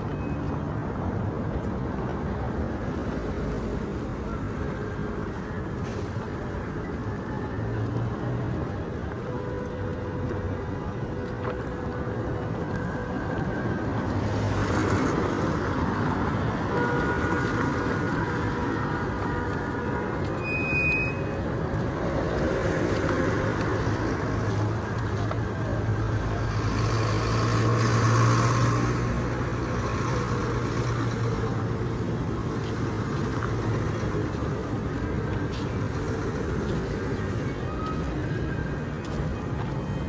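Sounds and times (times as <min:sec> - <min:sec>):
vehicle engines in slow traffic: 0:00.0 - 0:40.0.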